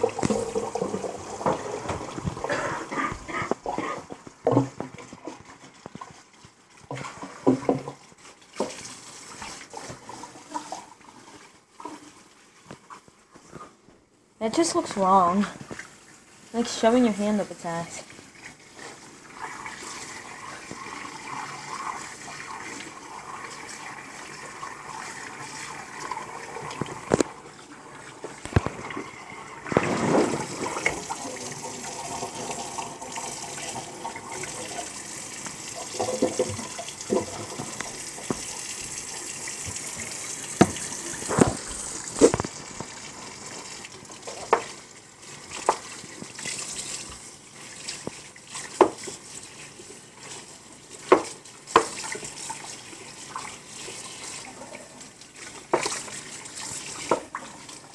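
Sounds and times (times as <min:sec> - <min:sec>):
water splashing: 0:00.0 - 0:13.1, 0:15.0 - 0:57.9
kitchen tap running: 0:00.0 - 0:13.2, 0:14.8 - 0:57.9.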